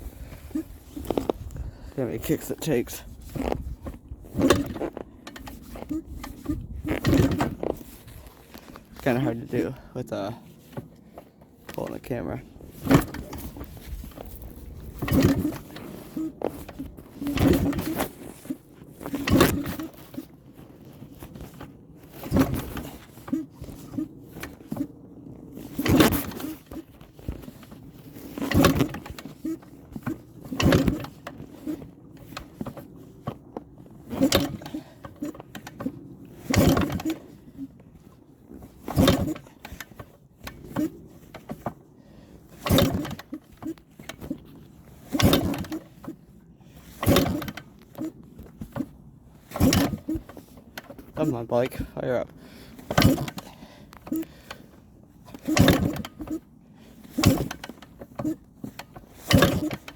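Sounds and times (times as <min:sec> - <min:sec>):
motorcycle kick-starting: 0:00.0 - 0:24.9, 0:25.5 - 0:59.9
engine turning over without firing: 0:00.1 - 0:10.9, 0:11.7 - 0:24.9, 0:25.6 - 0:37.7, 0:38.8 - 0:41.8, 0:42.4 - 0:46.2, 0:46.8 - 0:59.9.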